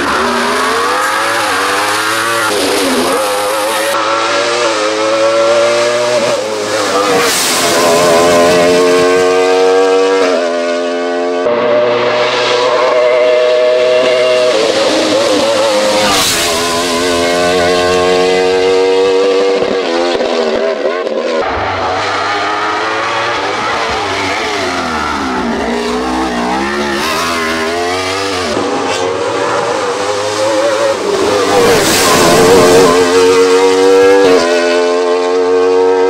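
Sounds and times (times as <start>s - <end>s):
race car engine screaming: 0.0s - 20.1s, 21.3s - 36.0s.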